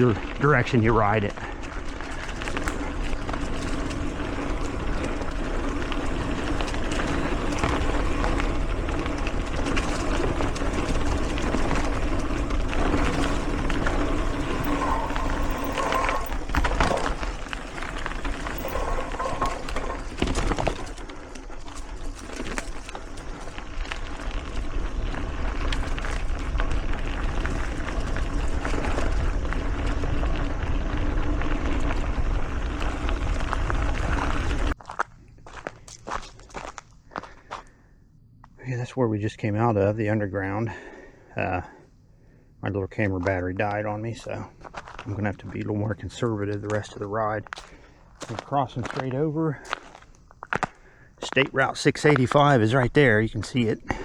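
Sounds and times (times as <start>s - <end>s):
bike rattling over bumps: 0.0s - 37.6s, 43.0s - 54.0s
bike tyres rolling on dirt: 0.0s - 54.0s.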